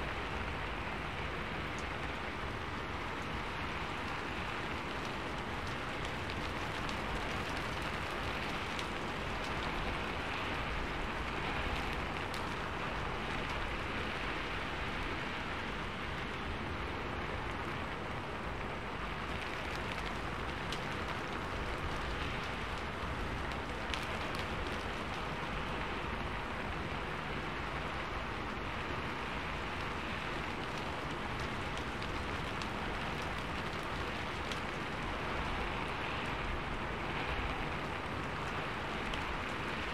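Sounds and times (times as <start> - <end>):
rain drop hits: 0.0 - 39.9
steady rain falling: 0.0 - 39.9.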